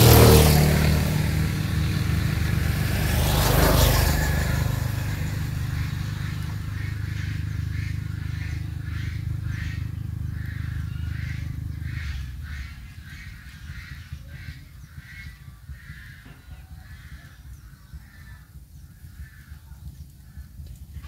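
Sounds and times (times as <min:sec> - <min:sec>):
animal harsh calls: 0:00.0 - 0:17.4
low rumble: 0:00.0 - 0:21.0.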